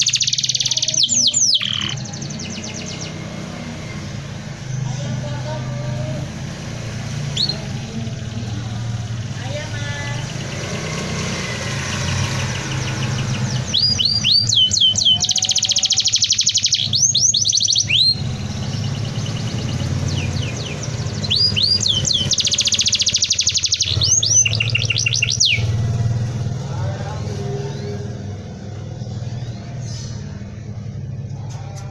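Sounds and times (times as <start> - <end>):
canary singing: 0.0 - 31.9.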